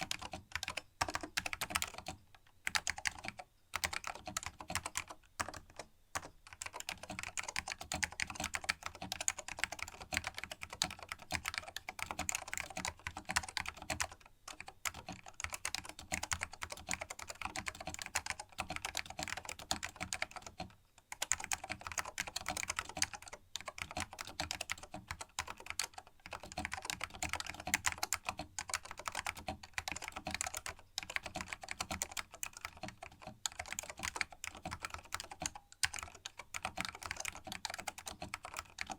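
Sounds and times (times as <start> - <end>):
fast keyboard typing clicks: 0.0 - 38.9.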